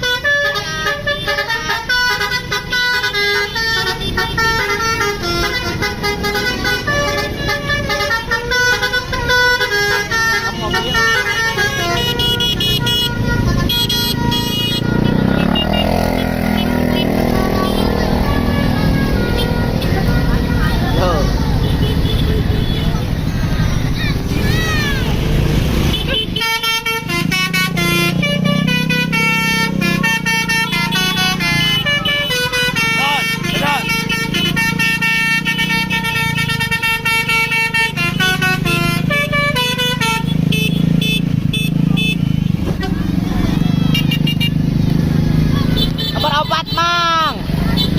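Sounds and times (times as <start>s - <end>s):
musical bus horn tune: 0.0s - 23.2s, 25.0s - 44.6s
bus engine running loud: 0.0s - 47.9s.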